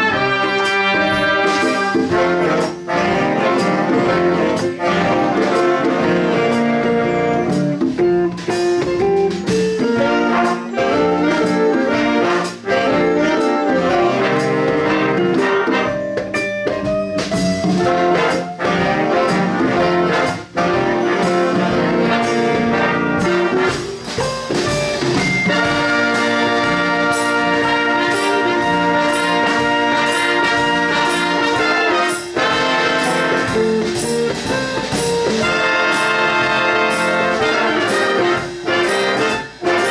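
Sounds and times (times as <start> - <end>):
brass and saxophone chords: 0.0 - 39.9
steady drum beat: 0.0 - 39.9.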